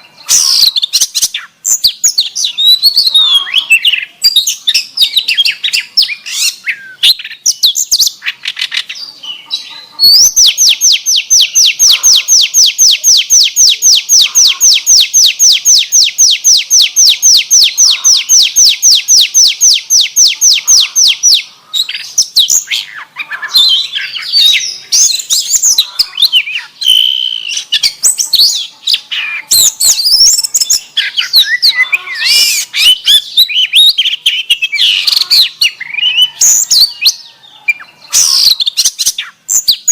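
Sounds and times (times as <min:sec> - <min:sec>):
bird singing: 0:00.0 - 0:39.9
rapid bird trill: 0:00.0 - 0:39.9.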